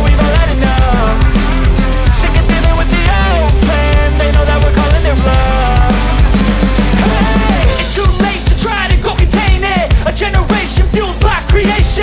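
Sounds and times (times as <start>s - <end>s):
song with heavy drum beat: 0.0s - 12.0s.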